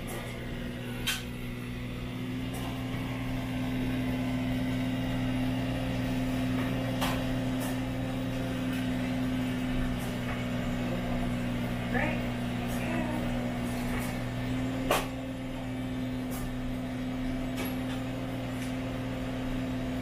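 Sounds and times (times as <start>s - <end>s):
vending machine humming: 0.0s - 20.0s.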